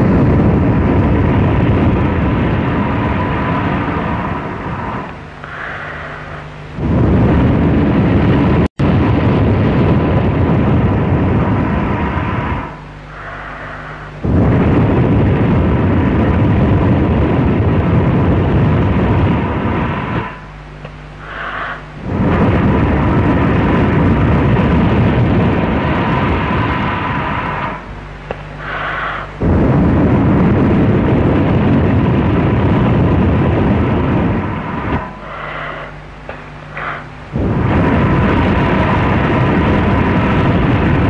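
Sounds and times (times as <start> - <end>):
breath blowing into microphone: 0.0 - 41.0
faint electrical hum: 0.0 - 41.0.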